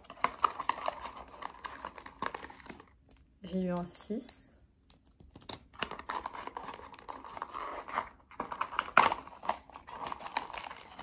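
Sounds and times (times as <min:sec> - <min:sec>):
plastic and cardboard packaging crinkling: 0:00.0 - 0:11.0.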